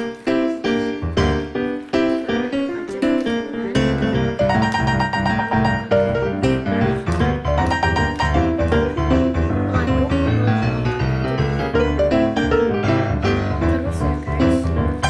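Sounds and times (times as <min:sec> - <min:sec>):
piano music with beat and bass: 0:00.0 - 0:15.0.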